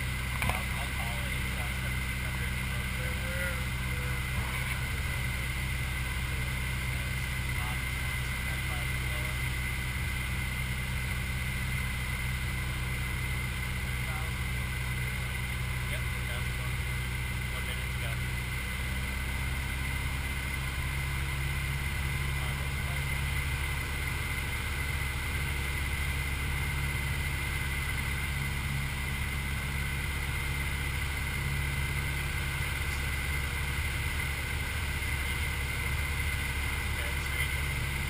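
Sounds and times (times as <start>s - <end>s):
airplane engine droning: 0.0s - 38.0s.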